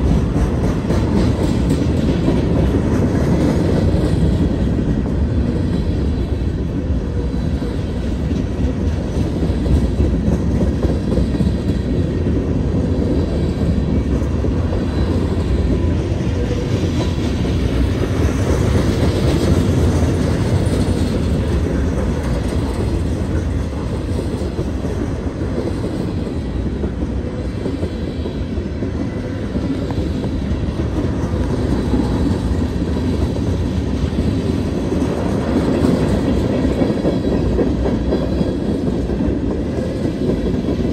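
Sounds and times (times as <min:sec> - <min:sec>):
steel wheels rumbling on rail: 0:00.0 - 0:40.9.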